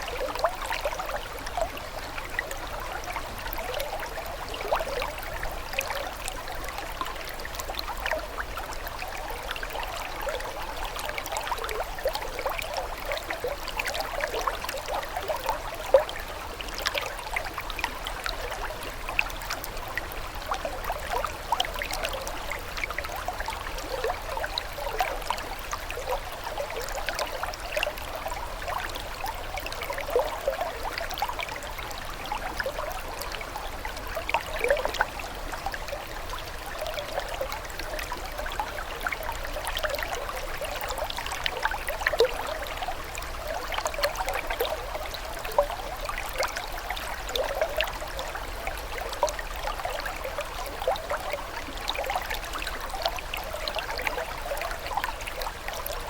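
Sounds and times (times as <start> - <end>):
water trickling over stones: 0.0 - 56.0.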